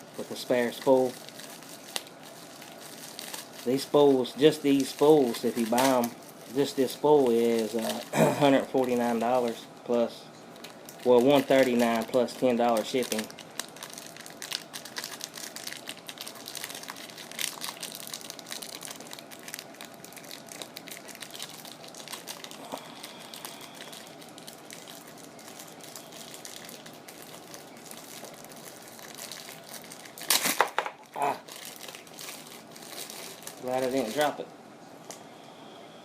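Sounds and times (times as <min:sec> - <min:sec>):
plastic packaging crinkling: 0:00.0 - 0:34.5.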